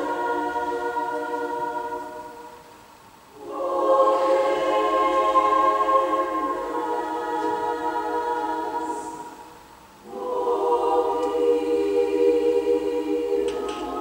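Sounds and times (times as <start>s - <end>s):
women's choir singing: 0.0s - 14.0s.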